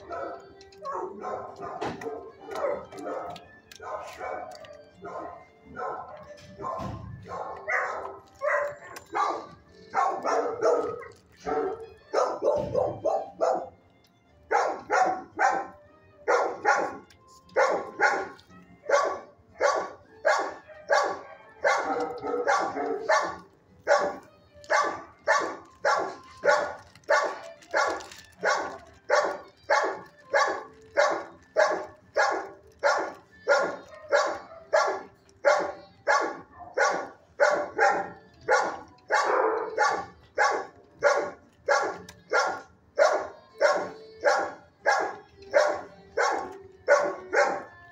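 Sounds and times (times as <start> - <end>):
dogs barking: 0.0 - 13.8, 14.4 - 47.9.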